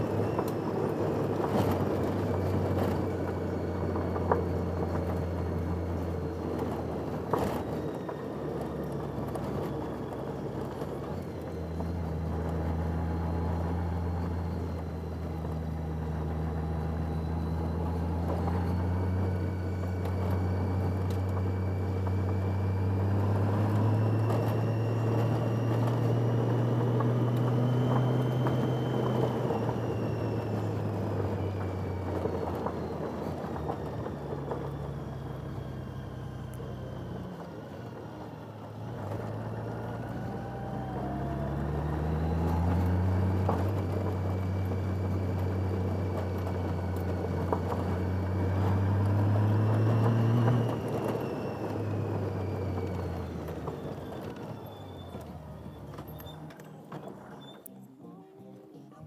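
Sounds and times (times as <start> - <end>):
wind and road noise: 0.0 - 58.9.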